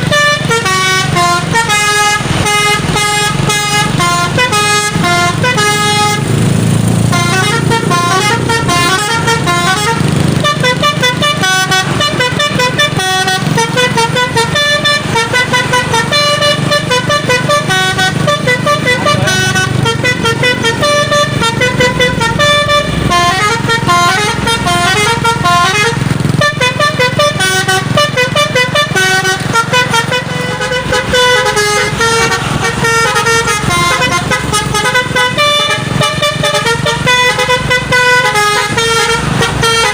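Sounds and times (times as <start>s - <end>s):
musical air horns playing a tune: 0.0s - 39.9s.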